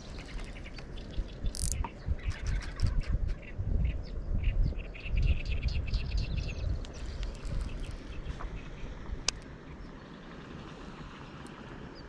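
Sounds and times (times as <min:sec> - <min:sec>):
small birds chirping: 0:00.0 - 0:12.0
wind rumbling: 0:00.0 - 0:12.0.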